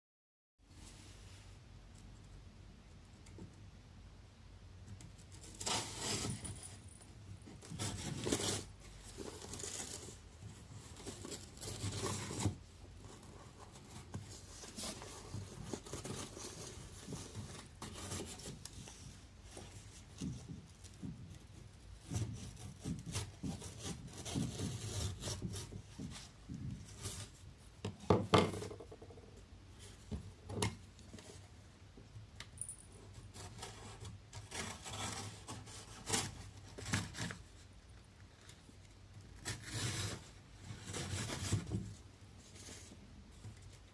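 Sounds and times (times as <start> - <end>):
rubbing and scraping on wood: 5.0 - 31.7, 32.6 - 43.9.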